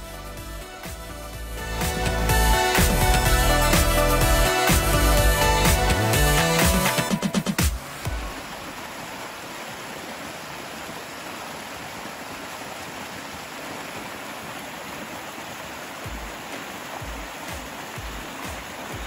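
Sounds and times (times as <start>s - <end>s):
water rushing down stream: 1.6s - 19.0s.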